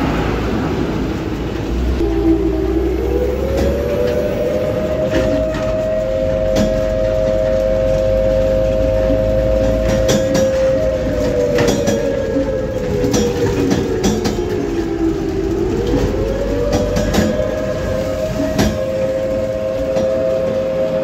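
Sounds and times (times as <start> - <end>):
low rumble: 0.0 - 21.0
rattles and clicks: 1.2 - 21.0.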